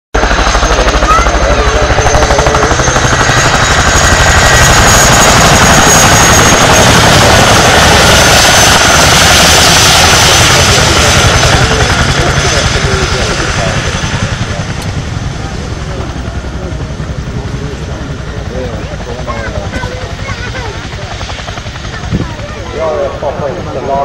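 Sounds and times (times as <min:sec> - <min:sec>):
helicopter rotors beating: 0:00.2 - 0:24.0
high engine whine: 0:00.2 - 0:24.0.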